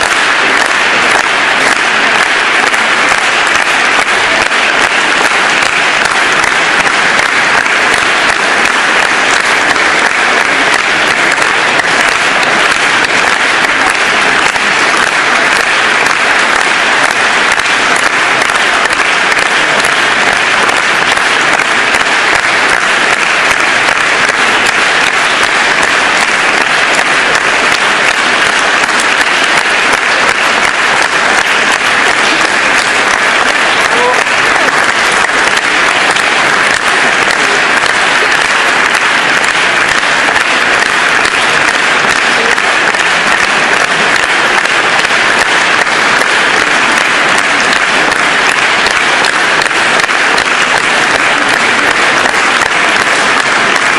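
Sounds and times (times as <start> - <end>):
audience applauding: 0.0 - 53.9.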